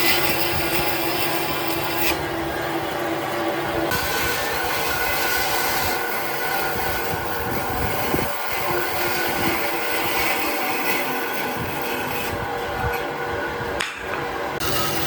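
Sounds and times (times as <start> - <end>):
power tool grinding wood: 0.0 - 13.8, 14.5 - 15.0.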